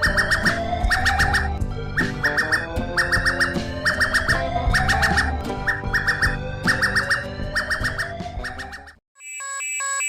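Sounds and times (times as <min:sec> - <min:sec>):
electronic alarm chirps: 0:00.0 - 0:10.0.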